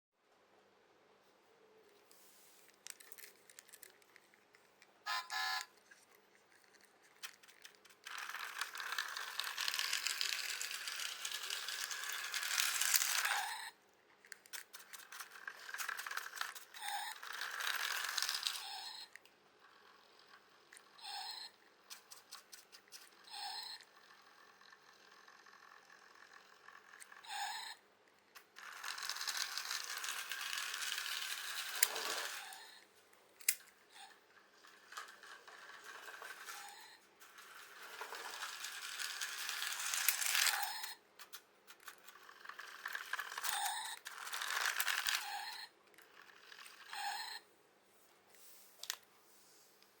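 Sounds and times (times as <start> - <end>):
toy car motor whirring: 2.8 - 4.3, 5.1 - 47.5.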